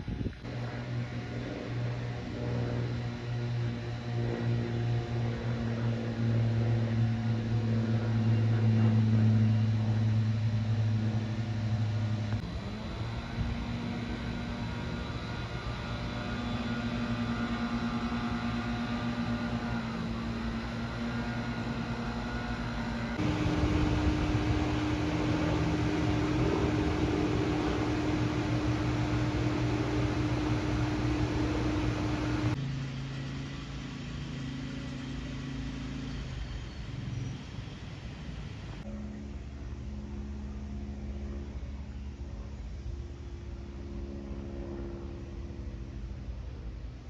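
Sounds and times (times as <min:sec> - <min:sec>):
aircraft engines droning: 0:00.0 - 0:47.0.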